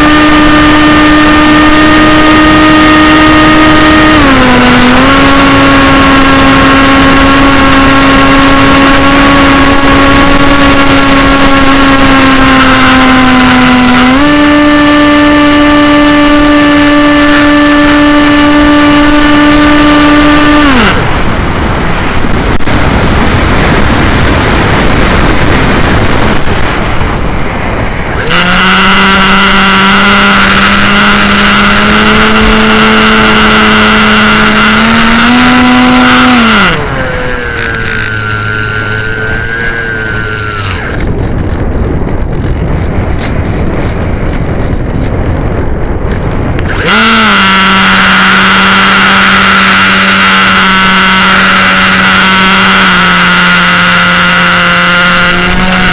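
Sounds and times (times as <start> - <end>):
electric motor and propeller whine: 0.0 - 55.9
wind rush on microphone: 0.0 - 55.9.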